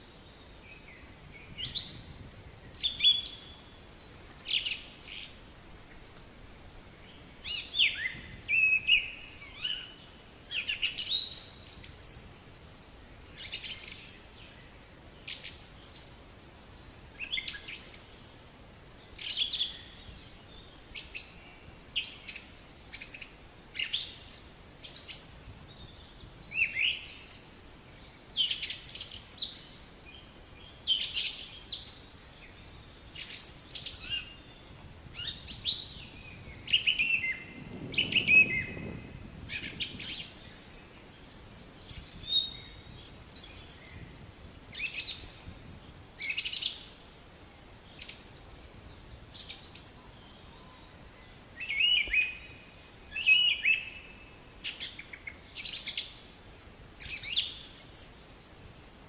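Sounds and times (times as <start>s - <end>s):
small songbirds chirping: 0.0s - 6.2s, 6.8s - 12.6s, 13.2s - 59.0s.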